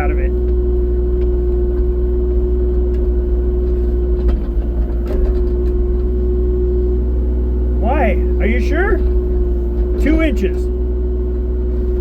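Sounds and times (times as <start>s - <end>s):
excavator diesel engine humming: 0.0s - 12.0s.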